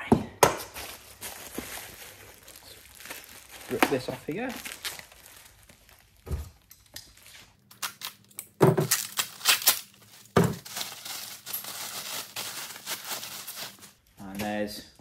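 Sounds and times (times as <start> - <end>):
plastic wrap crinkling and tearing: 0.8 - 14.1.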